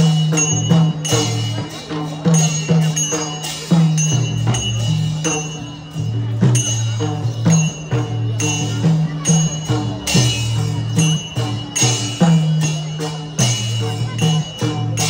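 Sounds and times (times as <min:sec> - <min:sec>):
drum strokes: 0:00.0 - 0:15.0
ringing cymbals: 0:00.0 - 0:15.0.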